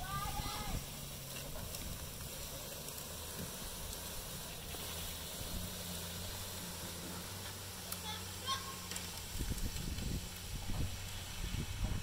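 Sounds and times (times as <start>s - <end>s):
truck engine humming: 0.0s - 12.0s
steady hiss: 0.3s - 11.9s.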